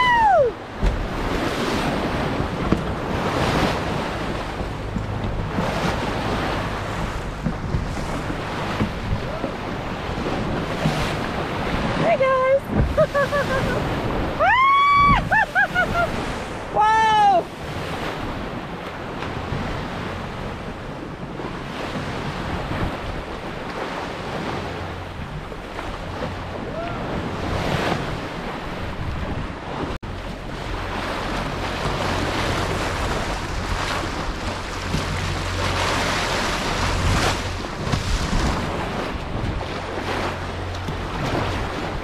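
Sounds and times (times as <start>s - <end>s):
water rushing along a hull: 0.0s - 42.0s
wind buffeting microphone: 0.0s - 42.0s.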